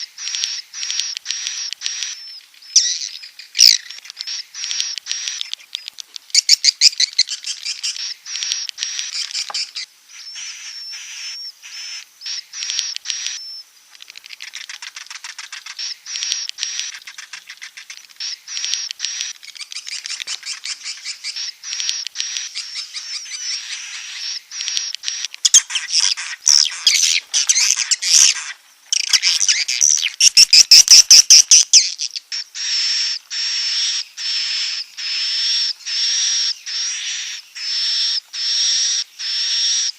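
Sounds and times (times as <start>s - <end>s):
high clicking twittering chirps: 0.0s - 39.9s.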